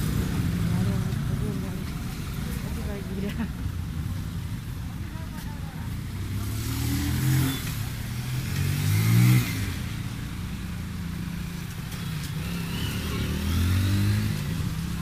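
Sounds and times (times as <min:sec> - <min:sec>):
vehicles passing on wet street: 0:00.0 - 0:15.0.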